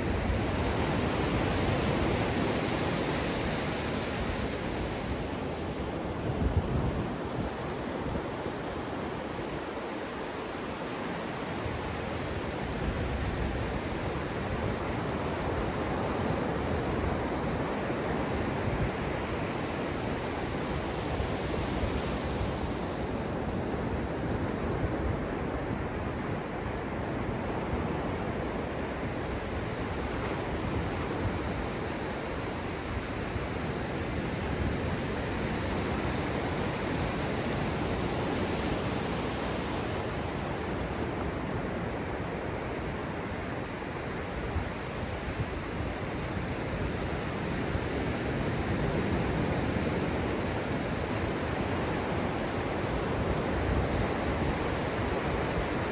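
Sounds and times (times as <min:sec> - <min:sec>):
surf washing up a beach: 0:00.0 - 0:55.9.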